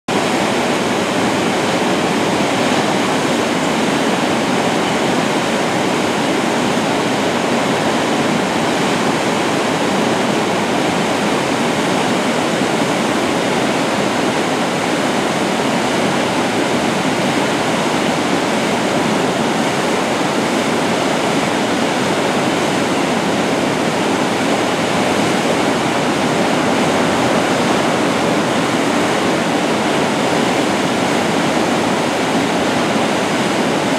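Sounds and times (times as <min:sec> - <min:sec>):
floodwater rushing over dam: 0:00.1 - 0:33.9.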